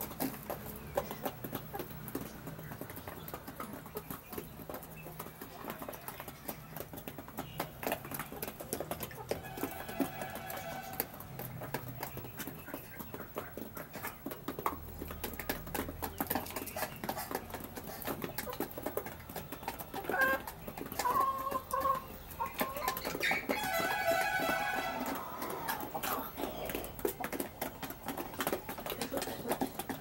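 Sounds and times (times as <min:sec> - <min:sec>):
chickens clucking: 0:00.0 - 0:30.0
chickens pecking beak taps: 0:00.0 - 0:30.0.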